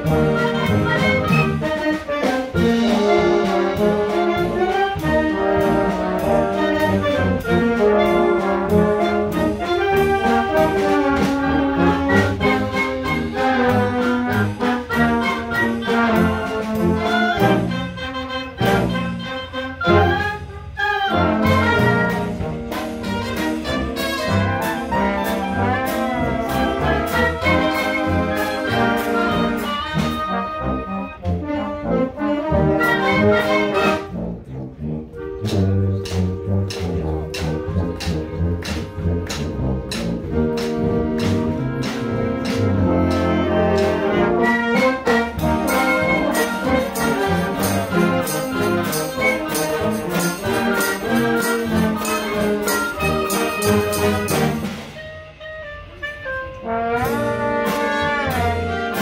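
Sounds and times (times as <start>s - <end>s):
wind band playing: 0.0s - 59.0s.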